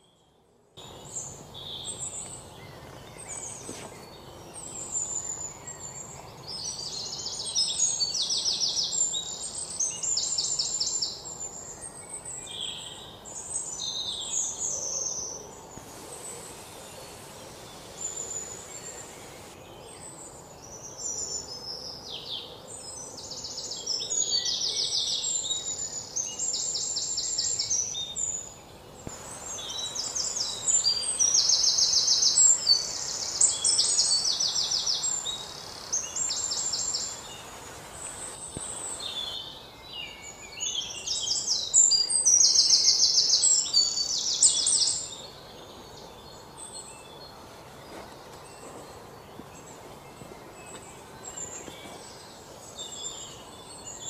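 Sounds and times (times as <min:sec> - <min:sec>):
faint background hiss: 0:00.0 - 0:54.0
songbirds trilling and chirping: 0:00.0 - 0:54.0.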